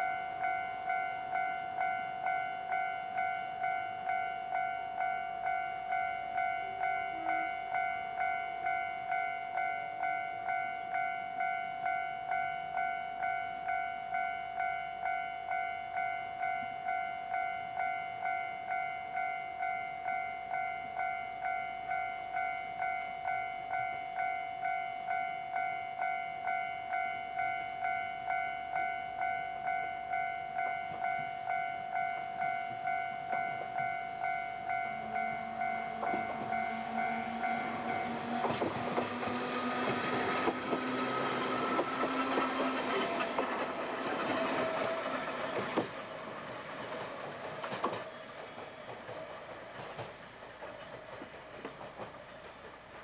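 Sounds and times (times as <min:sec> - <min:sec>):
level crossing warning bell: 0:00.0 - 0:53.0
railcar motors humming: 0:00.0 - 0:53.0.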